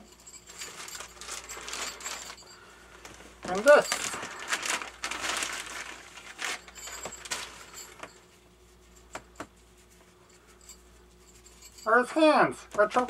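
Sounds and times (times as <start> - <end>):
rustling of handled objects: 0.0 - 13.0.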